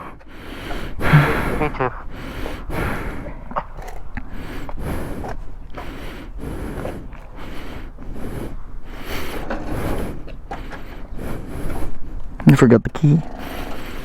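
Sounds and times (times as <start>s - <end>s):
person breathing hard: 0.0s - 12.4s, 13.3s - 14.0s.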